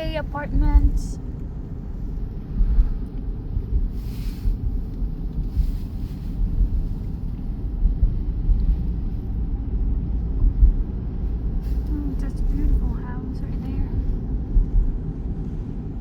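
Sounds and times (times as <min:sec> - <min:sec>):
car driving road noise: 0:00.0 - 0:16.0.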